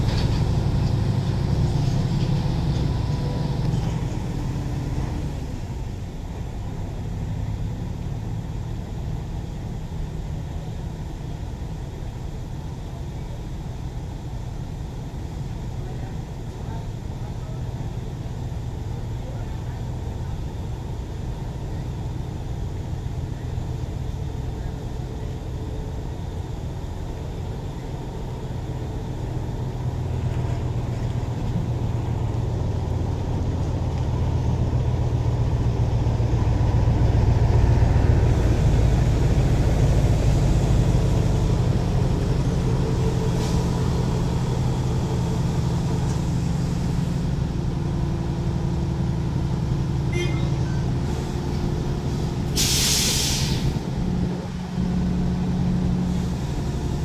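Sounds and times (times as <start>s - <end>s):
diesel engines rumbling: 0.0s - 57.0s.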